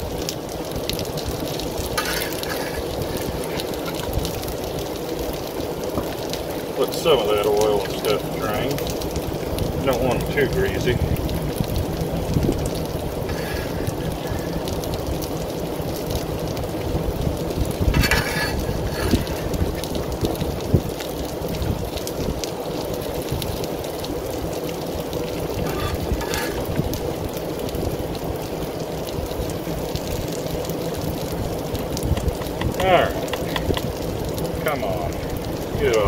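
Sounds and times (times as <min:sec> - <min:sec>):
food sizzling on a griddle: 0:00.0 - 0:36.0.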